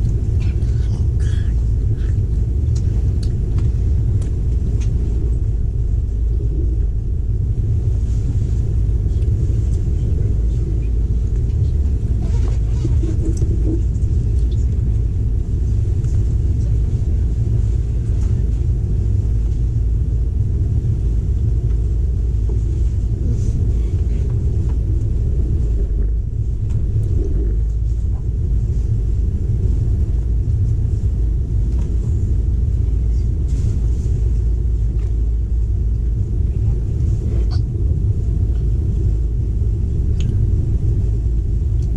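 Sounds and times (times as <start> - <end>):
train rumbling inside carriage: 0.0 - 41.9.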